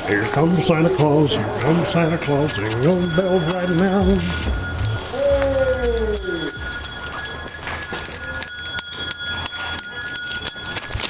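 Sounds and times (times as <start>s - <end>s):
bells shaken ringing: 0.0s - 11.0s.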